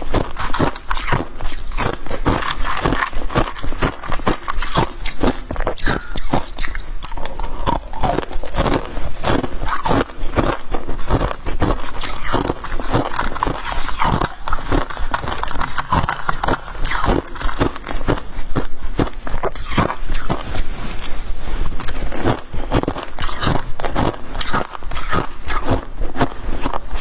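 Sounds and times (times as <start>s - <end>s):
frost being chewed: 0.0s - 27.0s.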